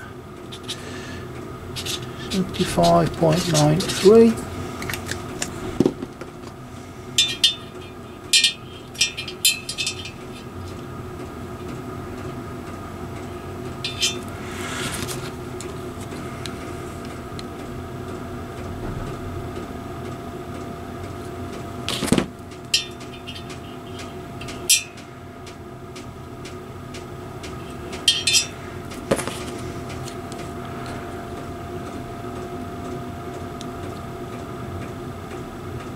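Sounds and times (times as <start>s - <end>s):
background hum: 0.0s - 35.9s.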